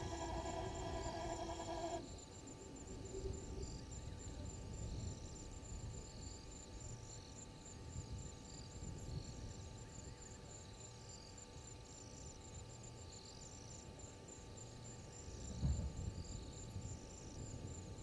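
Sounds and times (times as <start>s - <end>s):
insect chirps: 0.0s - 18.0s.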